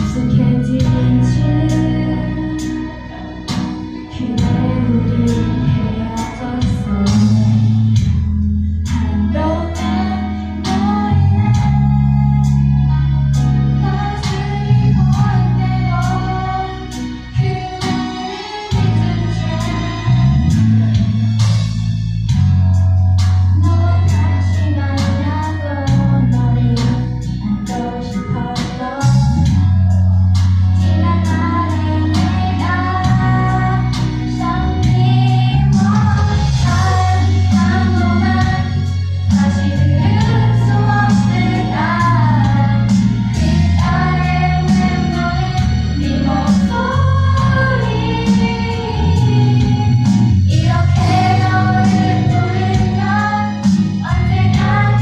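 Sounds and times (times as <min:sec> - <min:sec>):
pop ballad with singing: 0:00.0 - 0:55.0.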